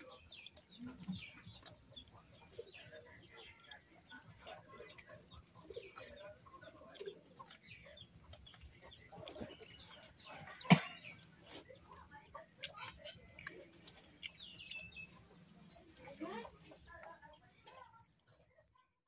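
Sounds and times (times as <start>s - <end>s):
chickens clucking: 0.0s - 18.6s
small birds chirping: 0.0s - 19.0s.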